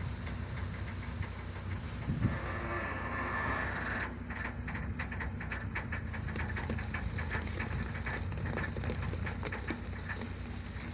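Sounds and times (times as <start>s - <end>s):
tractor engine running: 0.0s - 10.9s.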